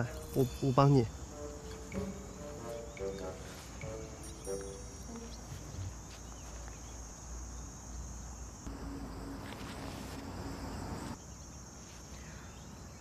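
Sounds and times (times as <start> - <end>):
high-pitched insect trilling: 0.0 - 11.6.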